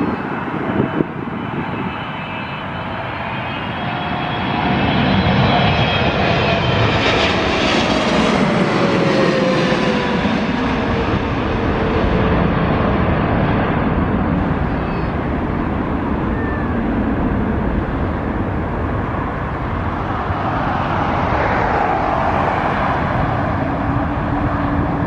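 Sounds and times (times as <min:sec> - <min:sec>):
jet airliner passing overhead: 0:00.0 - 0:25.0
jet engine whine sliding down: 0:00.0 - 0:25.0.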